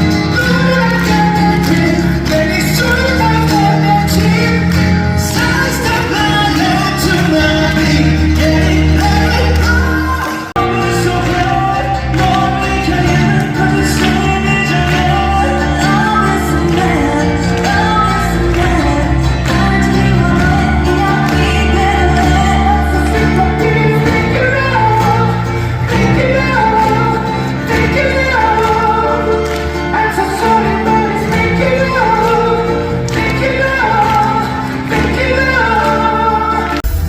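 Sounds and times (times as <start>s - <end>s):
person singing: 0.0s - 37.0s
sustained bass notes: 0.0s - 37.0s.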